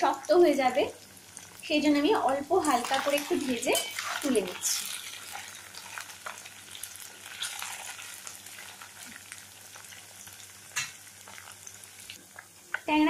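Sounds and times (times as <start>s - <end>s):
fish sizzling in hot oil: 0.0s - 12.4s.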